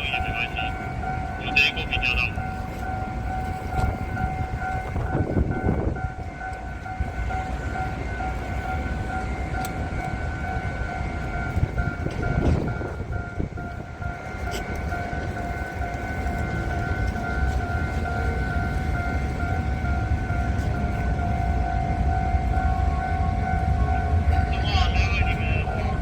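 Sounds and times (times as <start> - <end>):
rail vehicle whine and rumble: 0.0 - 26.0.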